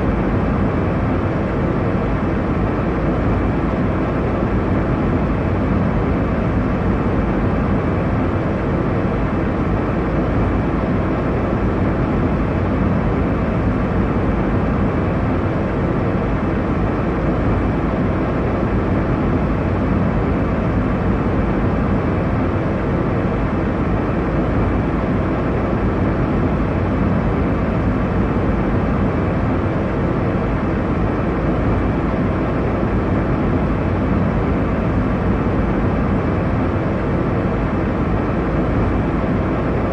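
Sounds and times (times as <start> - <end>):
airliner cabin engine and airflow rush: 0.0 - 39.9.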